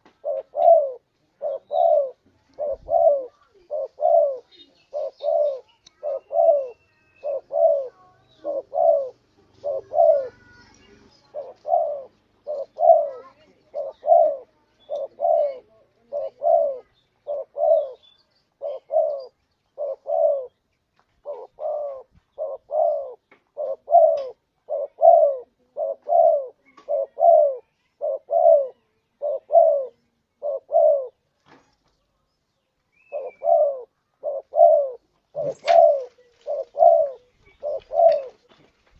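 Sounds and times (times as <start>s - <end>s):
dove cooing: 0.0s - 20.6s, 21.2s - 31.2s, 33.0s - 38.6s.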